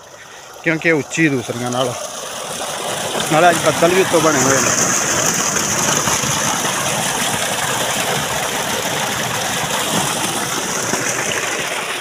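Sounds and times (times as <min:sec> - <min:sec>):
water gushing into a tank: 0:00.0 - 0:12.0.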